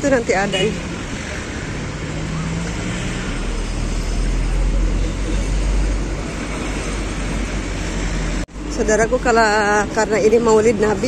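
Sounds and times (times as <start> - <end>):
road and traffic noise: 0.0 - 11.0.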